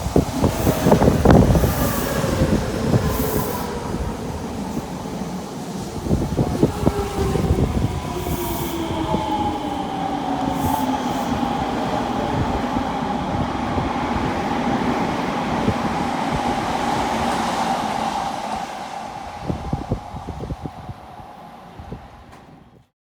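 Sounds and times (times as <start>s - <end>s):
electric train motor whine: 0.0s - 22.5s
train wheel noise: 0.0s - 22.9s.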